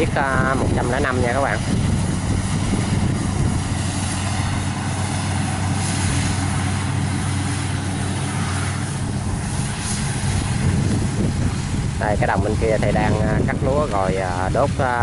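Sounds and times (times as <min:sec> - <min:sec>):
combine harvester engine droning: 0:00.0 - 0:15.0.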